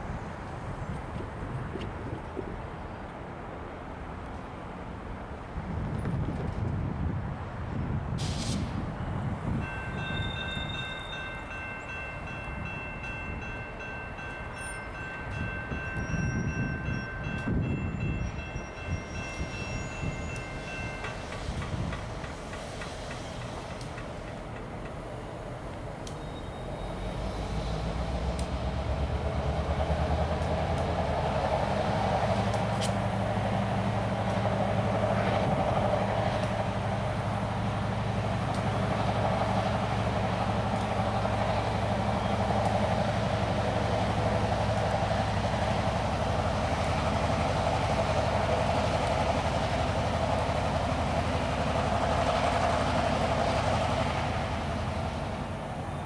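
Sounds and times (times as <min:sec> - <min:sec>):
diesel locomotive engine drone: 0:00.0 - 0:56.0
train wheels rolling on rails: 0:05.4 - 0:56.0.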